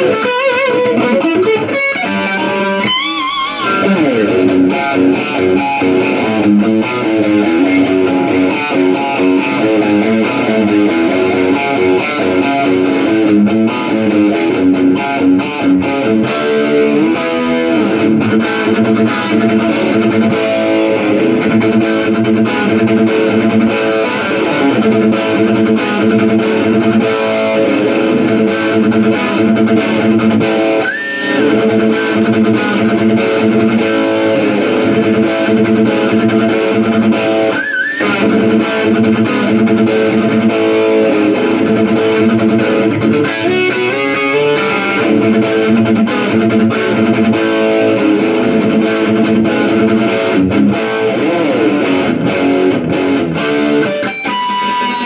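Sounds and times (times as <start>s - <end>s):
distorted electric guitar riffs: 0.0s - 55.0s.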